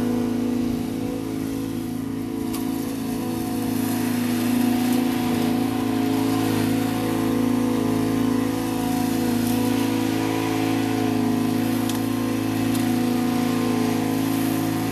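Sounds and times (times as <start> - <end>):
lawn mower engine running: 0.0 - 14.9.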